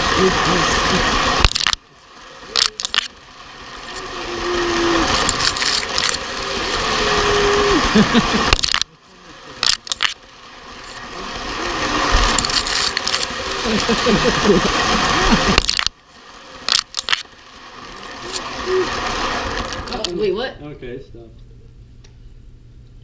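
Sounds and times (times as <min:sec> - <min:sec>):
toy train motor whirring: 0:00.0 - 0:20.4
wheels rattling on rails: 0:00.0 - 0:20.5.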